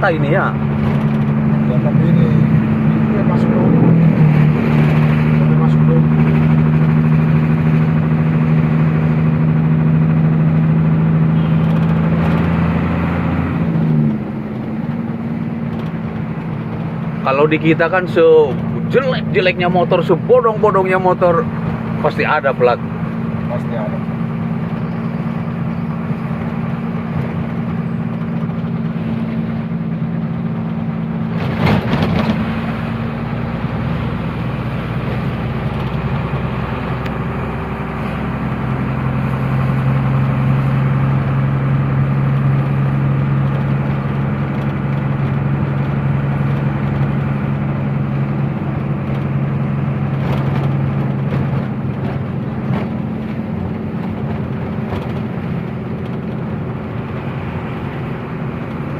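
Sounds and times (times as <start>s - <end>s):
lower louder engine tone: 0.0s - 58.9s
truck engine running: 0.0s - 58.9s.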